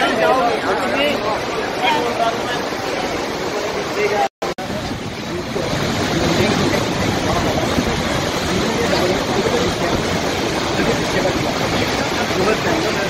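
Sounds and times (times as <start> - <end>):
river rushing through gorge: 0.0 - 13.0.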